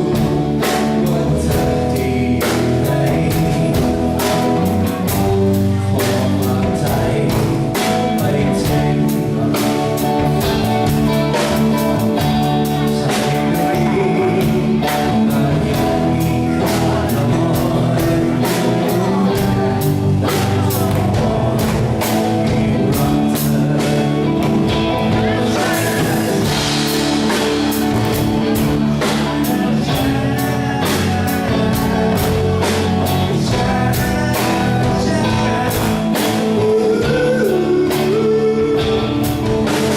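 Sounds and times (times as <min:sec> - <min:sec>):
bass: 0:00.0 - 0:39.9
drum kit: 0:00.0 - 0:39.9
guitar: 0:00.0 - 0:39.9
person singing: 0:00.0 - 0:39.9.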